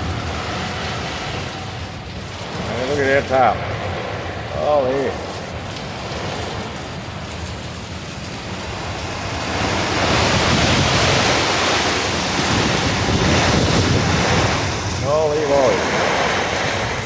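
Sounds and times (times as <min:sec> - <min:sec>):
gusting wind: 0:00.0 - 0:17.0
heavy rain: 0:00.0 - 0:17.0
wind buffeting microphone: 0:00.0 - 0:17.0.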